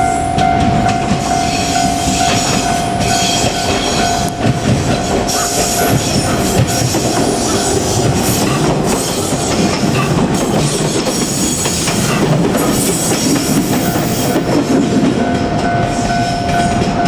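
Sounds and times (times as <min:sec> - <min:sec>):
level crossing alarm ringing: 0:00.0 - 0:17.0
train wheels on rails: 0:00.0 - 0:17.0.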